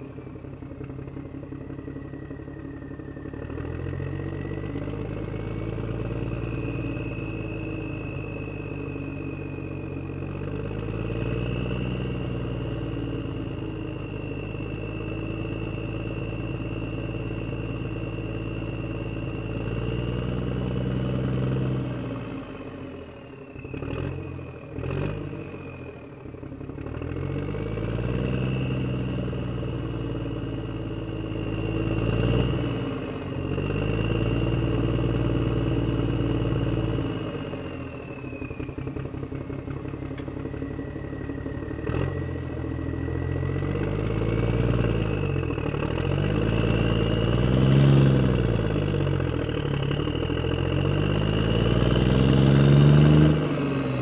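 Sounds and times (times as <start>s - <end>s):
small vehicle engine revving: 2.3s - 23.0s, 23.7s - 54.0s.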